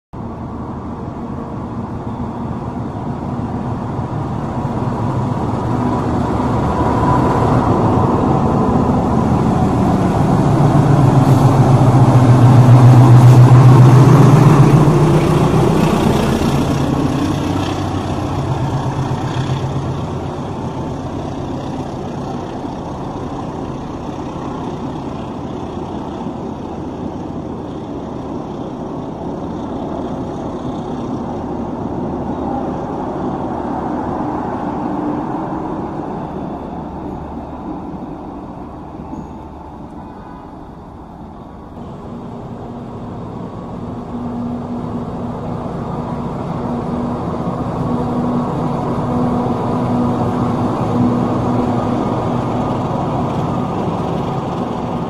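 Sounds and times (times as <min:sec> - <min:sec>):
diesel locomotive engine: 0:00.2 - 0:55.0
train coaches rolling past: 0:00.2 - 0:55.0.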